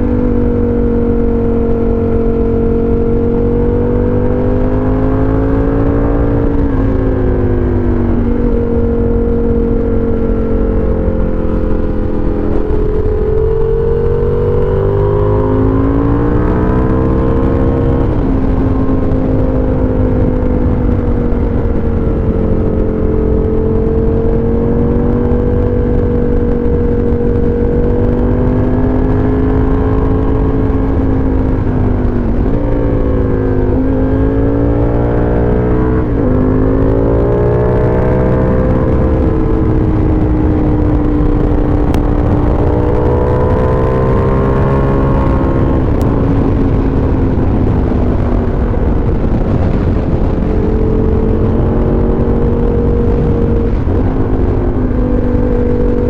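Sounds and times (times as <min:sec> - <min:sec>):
muffled motorcycle engine: 0:00.0 - 0:56.0
wind and road noise: 0:00.0 - 0:56.0.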